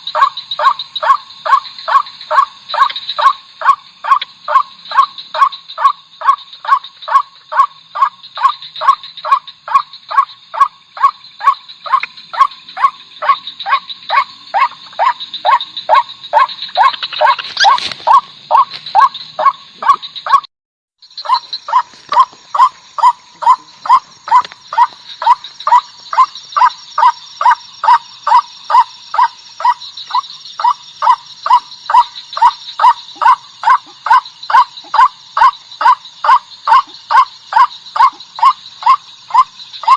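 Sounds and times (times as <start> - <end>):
waterhen calling: 0.0 - 20.4, 21.1 - 39.9.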